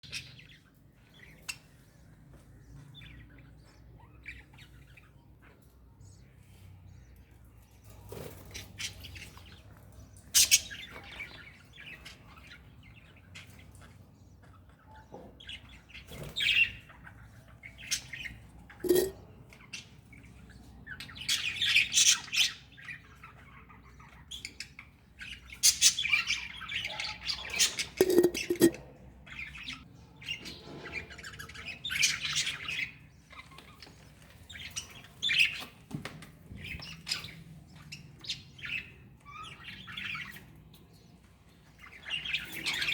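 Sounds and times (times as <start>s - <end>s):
budgerigars chirping and squawking: 0.0s - 5.8s, 7.9s - 35.8s, 36.5s - 42.9s.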